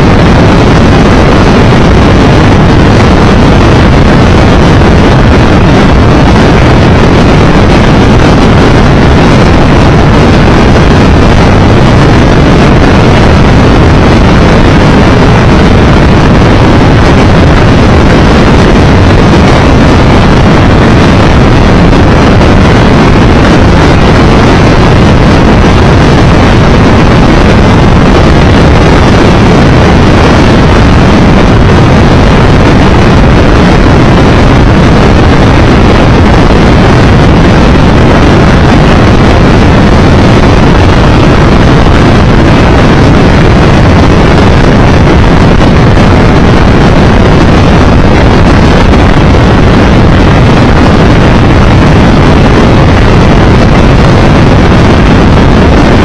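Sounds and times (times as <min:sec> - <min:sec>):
motorcycle engine and road noise: 0:00.0 - 0:45.9
wind rush over microphone: 0:00.0 - 0:56.0.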